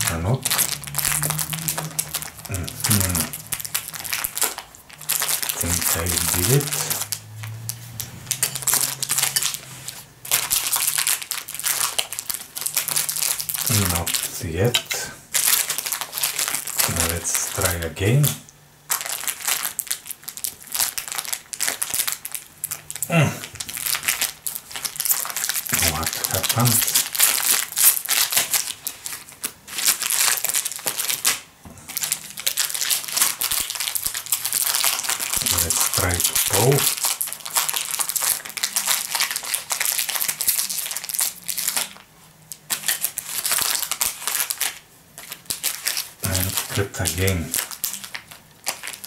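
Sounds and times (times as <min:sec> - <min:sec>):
plastic wrapper crinkling: 0:00.0 - 0:49.0.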